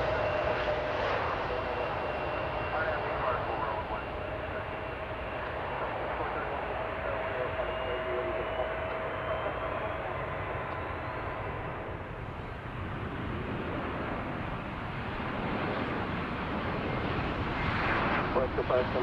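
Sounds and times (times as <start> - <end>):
airplane engines rumbling: 0.0 - 19.0.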